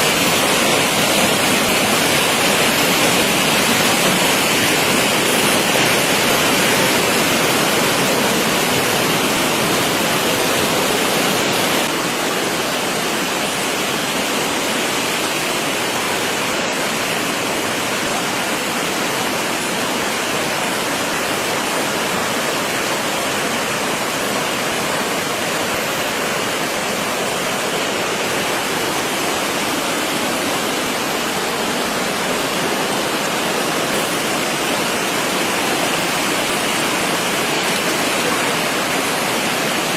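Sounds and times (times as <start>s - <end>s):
storm water rushing: 0.0s - 39.9s.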